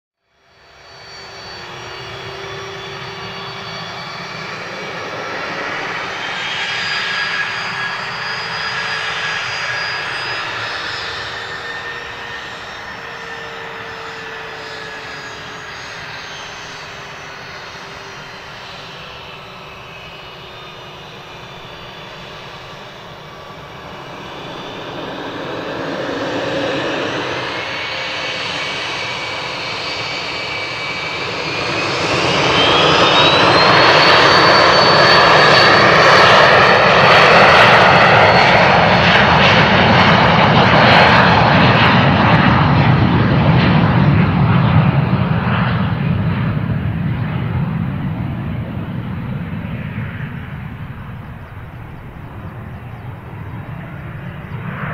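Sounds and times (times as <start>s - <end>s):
jet engines spooling up: 0.4s - 54.9s.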